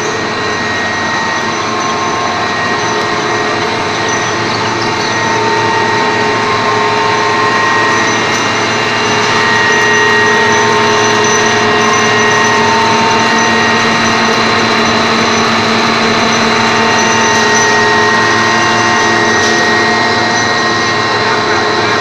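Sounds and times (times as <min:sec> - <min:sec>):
high motor whines: 0:00.0 - 0:22.0
loud mechanical drone: 0:00.0 - 0:22.0.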